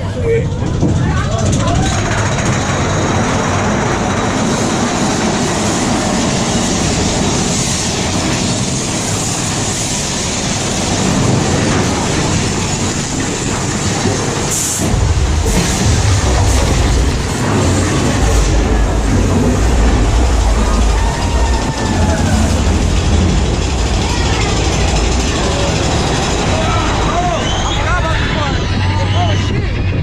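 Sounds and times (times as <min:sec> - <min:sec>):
deep rumble: 0:00.0 - 0:30.0
roller coaster wheels rattling: 0:00.0 - 0:30.0.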